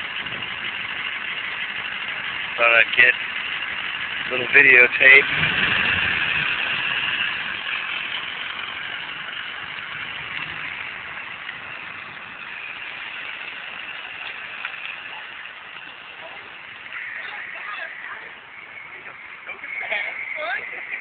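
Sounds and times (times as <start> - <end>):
truck engine pulling away: 0.0 - 21.0.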